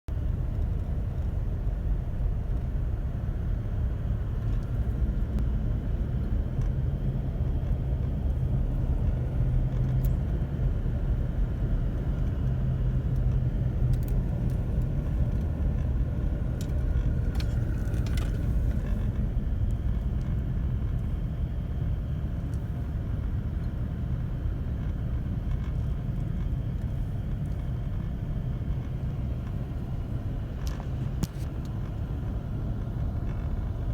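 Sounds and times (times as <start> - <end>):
car engine and road rumble: 0.0 - 33.9.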